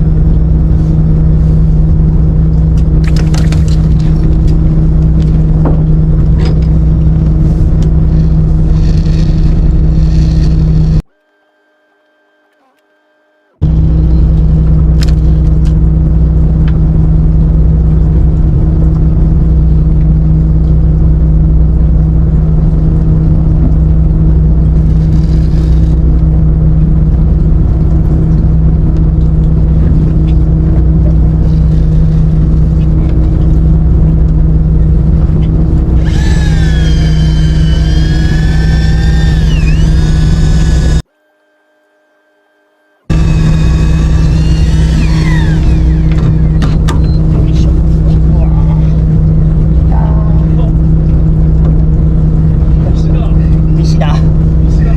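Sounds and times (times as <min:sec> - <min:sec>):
boat engine humming: 0:00.0 - 0:54.9.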